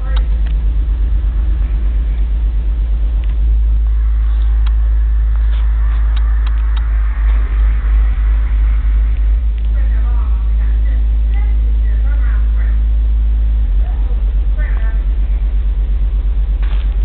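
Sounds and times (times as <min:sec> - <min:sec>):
muffled subwoofer bass booming: 0:00.0 - 0:17.0.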